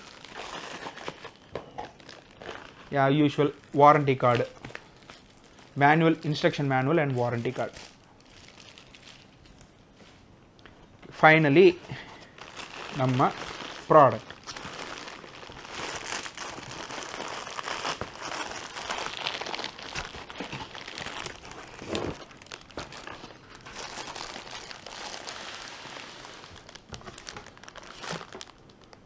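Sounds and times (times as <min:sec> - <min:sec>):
packaging crinkling and rustling: 0:00.0 - 0:09.7, 0:11.5 - 0:29.0.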